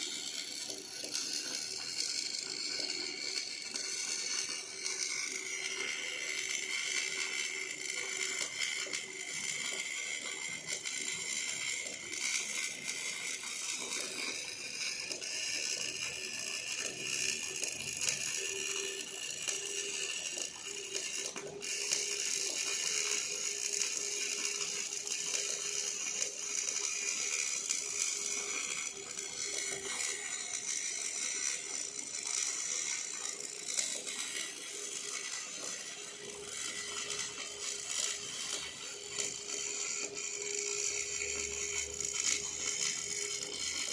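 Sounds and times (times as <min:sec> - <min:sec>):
steady high-pitched tones: 0:00.0 - 0:43.9
welding robot rattling and clicking: 0:00.0 - 0:43.9.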